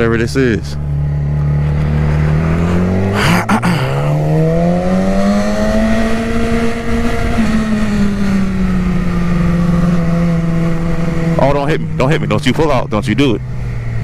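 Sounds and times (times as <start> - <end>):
motorcycle engine revving: 0.8 - 14.0.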